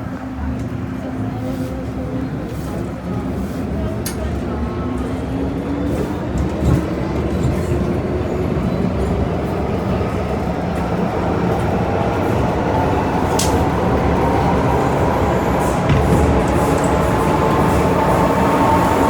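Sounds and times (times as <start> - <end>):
train wheels rumbling: 1.3 - 19.0.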